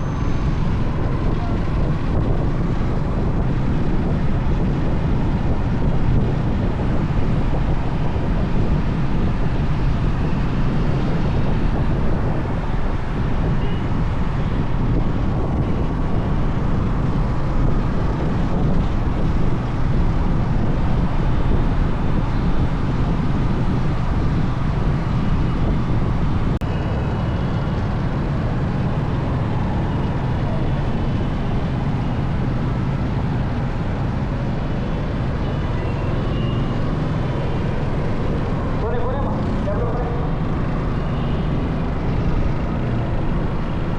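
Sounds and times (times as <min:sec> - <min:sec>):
motorcycle engine and road noise: 0:00.0 - 0:43.9.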